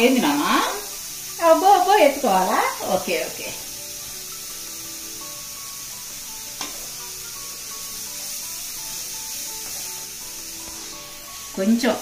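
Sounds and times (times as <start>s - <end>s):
pumpkin sizzling in pan: 0.0s - 12.0s.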